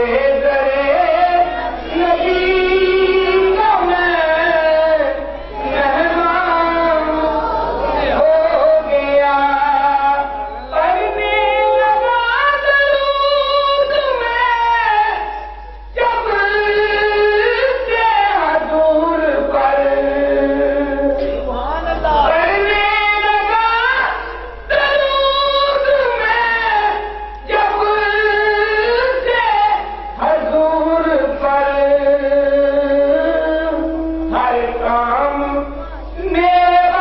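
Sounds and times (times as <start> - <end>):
man singing into a microphone: 0.0 - 21.4, 22.2 - 37.0.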